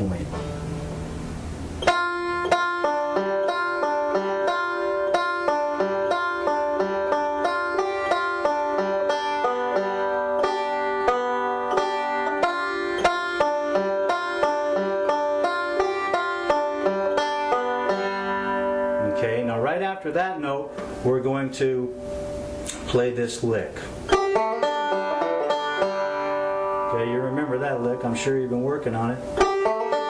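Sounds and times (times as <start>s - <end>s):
banjo picking: 0.0s - 23.1s, 23.8s - 30.0s.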